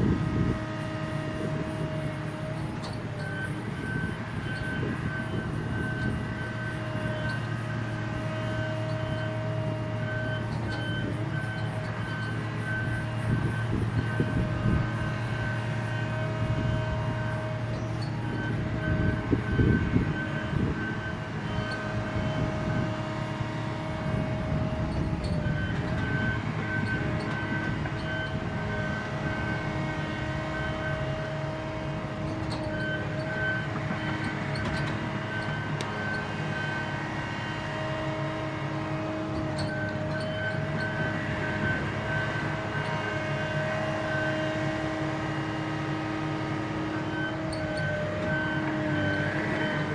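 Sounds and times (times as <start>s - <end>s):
heavy diesel engine rumble: 0.0s - 49.9s
hydraulic whine: 0.0s - 49.9s.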